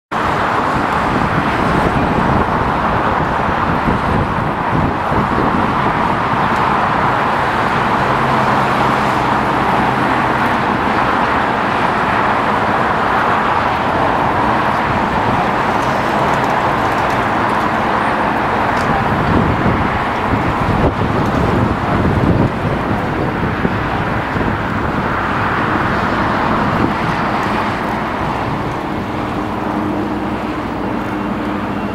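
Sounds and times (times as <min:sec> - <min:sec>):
jet engines running: 0:00.1 - 0:31.9.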